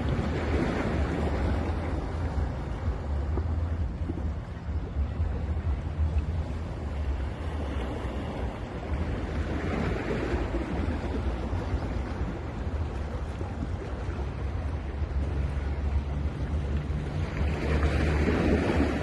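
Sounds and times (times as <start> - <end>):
low rumble of surf: 0.0 - 19.0
wind on microphone: 0.0 - 19.0.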